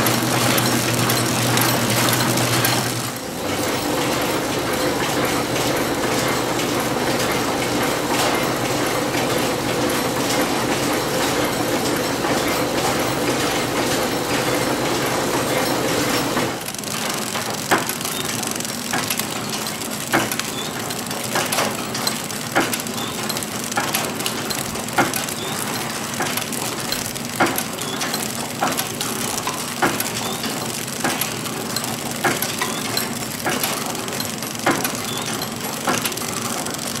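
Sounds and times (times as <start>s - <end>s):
wrapping machine rattling: 0.0s - 37.0s.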